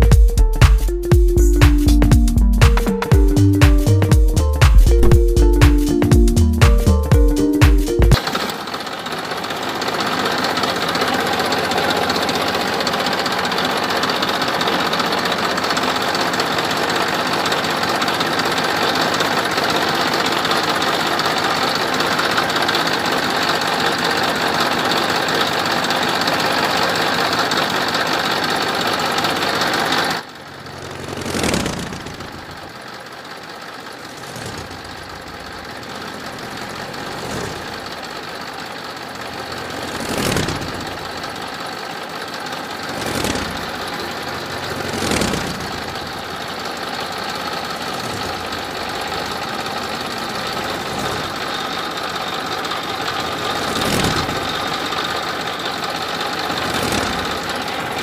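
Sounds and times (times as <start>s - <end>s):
vehicle engine running loudly: 0.0s - 7.4s, 8.0s - 58.0s
engine idling: 0.0s - 58.0s.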